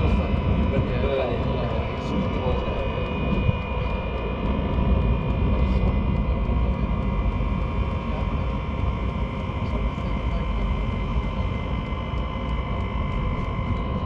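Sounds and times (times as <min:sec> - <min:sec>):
diesel air heater running: 0:00.0 - 0:14.0.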